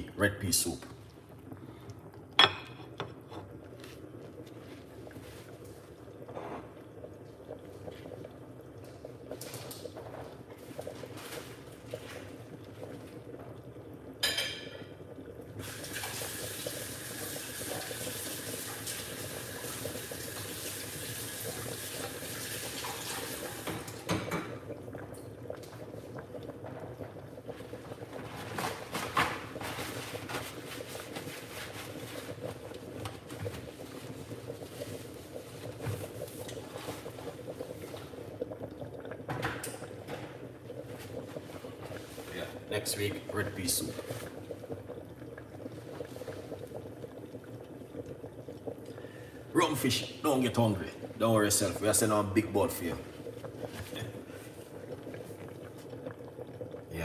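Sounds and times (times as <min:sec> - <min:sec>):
soup bubbling and popping: 0:00.7 - 0:57.0.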